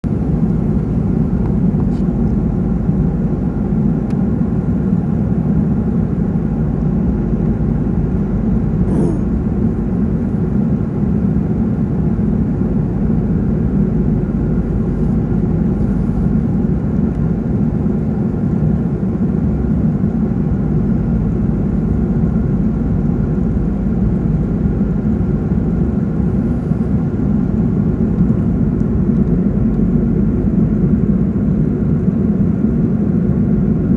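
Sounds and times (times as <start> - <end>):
aircraft engines droning: 0.2 - 31.9.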